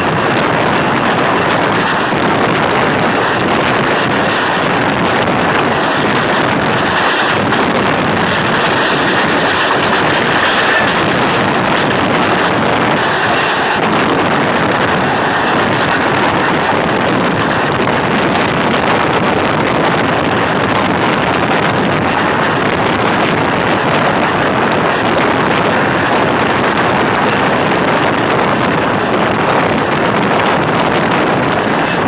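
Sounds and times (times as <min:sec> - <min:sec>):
train running noise: 0:00.0 - 0:32.0
wind blowing over microphone: 0:00.0 - 0:32.0.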